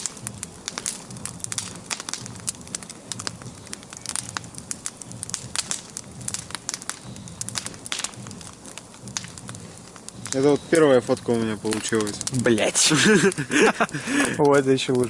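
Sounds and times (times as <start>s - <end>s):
bonfire crackling: 0.0s - 15.0s
low rush of flame: 0.0s - 15.0s
sharp pops: 0.0s - 15.0s.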